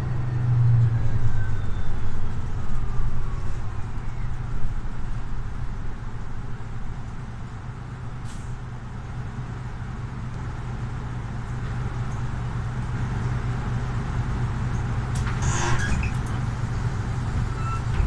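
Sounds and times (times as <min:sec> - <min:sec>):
bus diesel engine droning: 0:00.0 - 0:18.0.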